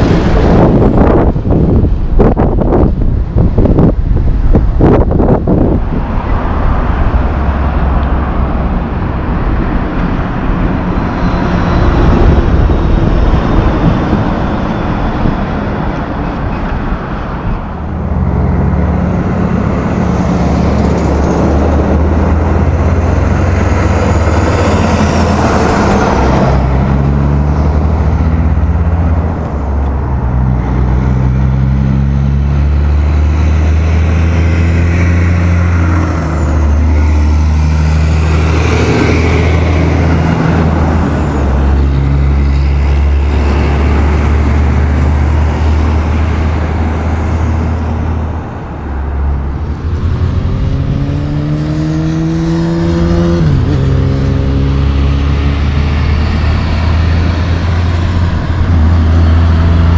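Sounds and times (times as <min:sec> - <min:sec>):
diesel trucks droning past: 0:00.0 - 0:59.9
road traffic passing: 0:00.0 - 0:59.9.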